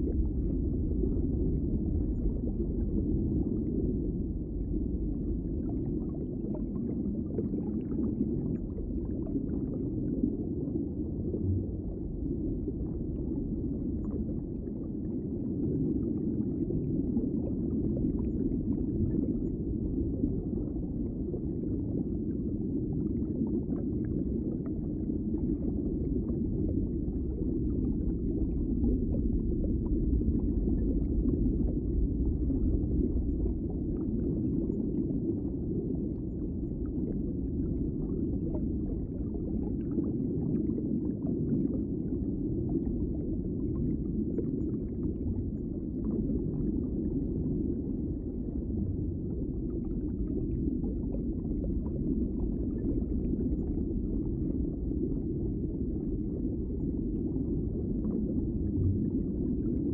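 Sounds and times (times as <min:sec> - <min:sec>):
muffled underwater rumble: 0:00.0 - 0:59.9.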